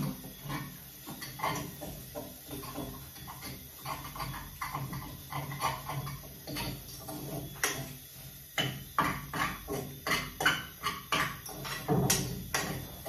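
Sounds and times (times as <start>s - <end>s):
metal utensil scraping saucepan: 0.0s - 13.0s.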